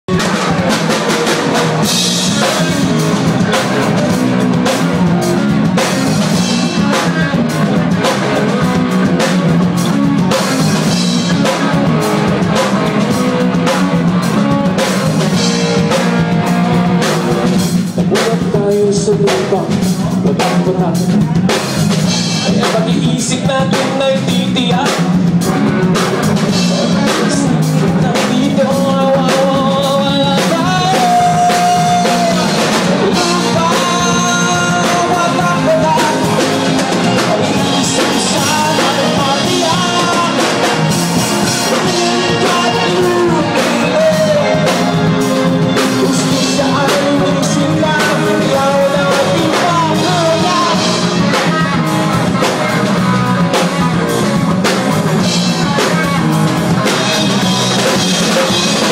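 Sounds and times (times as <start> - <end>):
live rock band playing: 0.0 - 58.9
person singing: 0.0 - 58.9
drum kit beat: 0.1 - 58.9.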